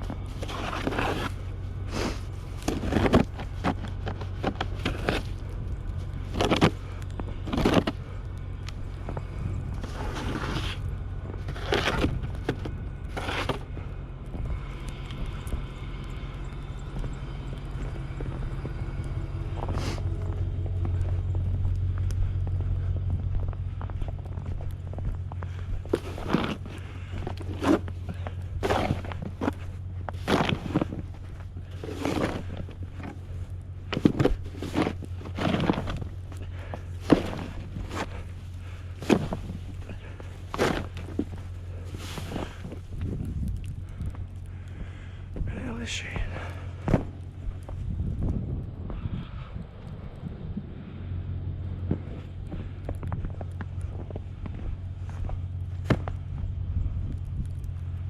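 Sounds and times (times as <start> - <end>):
footsteps crunching in snow: 0.0 - 8.0, 8.6 - 49.1, 51.8 - 56.4
steady low hum: 0.0 - 58.0
vehicle engine running: 0.0 - 58.0.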